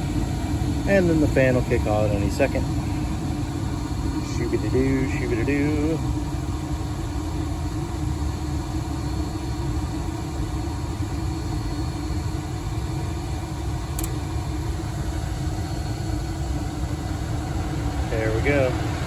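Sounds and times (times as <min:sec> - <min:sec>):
gas furnace running: 0:00.0 - 0:19.0.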